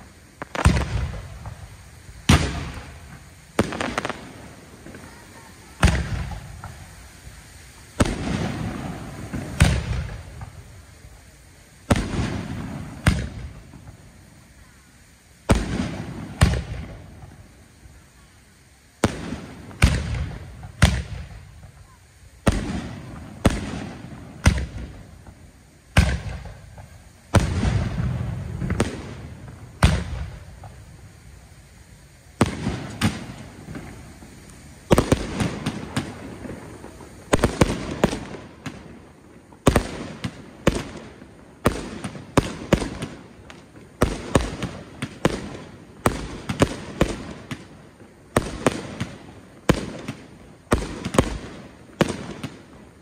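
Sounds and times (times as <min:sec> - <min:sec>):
fireworks bursting with echoes: 0:00.0 - 0:53.0.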